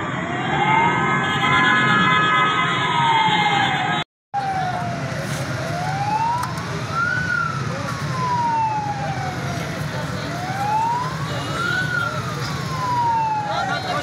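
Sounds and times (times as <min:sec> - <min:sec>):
fire engine siren wailing: 0:00.0 - 0:14.0
street noise: 0:00.0 - 0:14.0.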